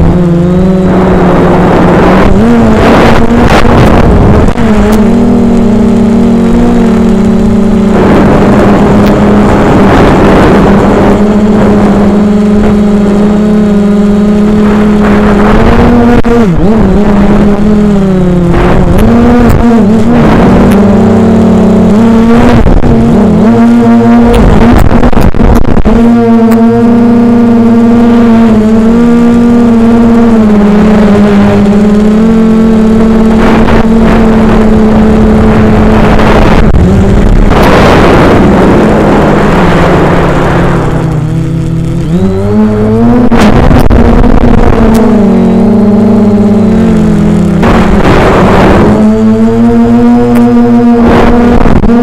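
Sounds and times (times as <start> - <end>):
drone motors and propellers humming: 0.0 - 52.0
wind noise: 0.0 - 52.0.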